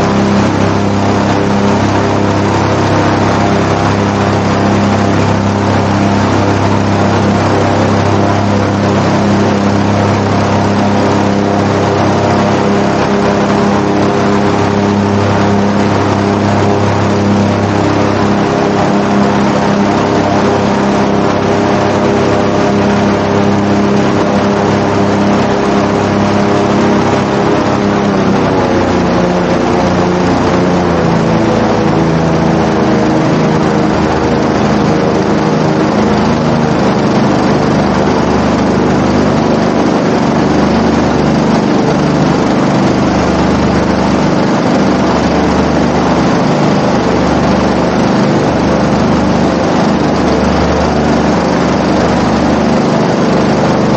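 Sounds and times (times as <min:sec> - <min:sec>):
airboat engine and propeller: 0:00.0 - 0:53.9.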